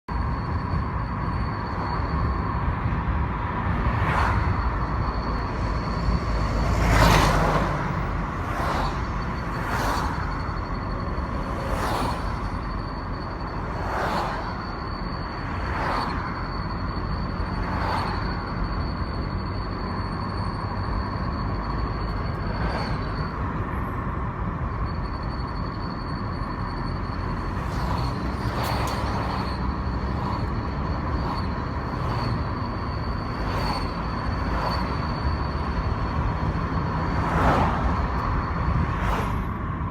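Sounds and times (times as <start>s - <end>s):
road and engine noise: 0.0s - 39.9s
high-pitched whistle: 0.1s - 39.5s.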